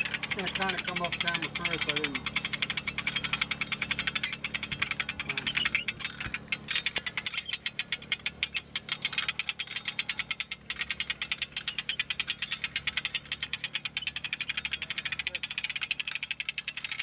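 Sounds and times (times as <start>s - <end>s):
engine idling with fast ticking: 0.0s - 17.0s.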